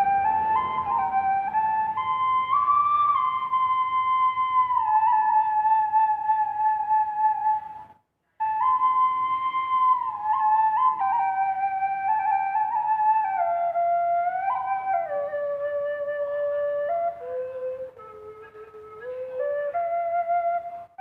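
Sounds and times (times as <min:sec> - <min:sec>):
duct flute playing held notes: 0:00.0 - 0:21.0.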